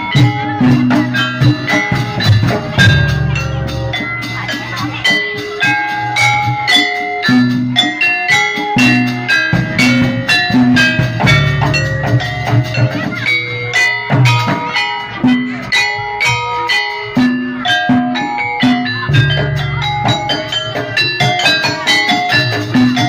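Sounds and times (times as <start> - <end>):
struck metallophone notes: 0.0 - 23.0.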